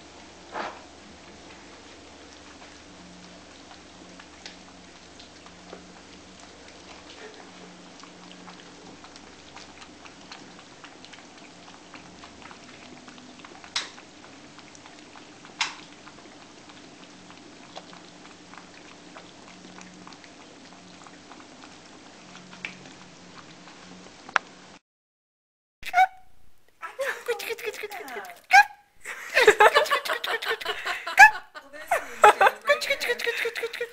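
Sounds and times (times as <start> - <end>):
kittens chewing and lapping: 0.0 - 24.6, 25.9 - 28.6, 29.2 - 33.9.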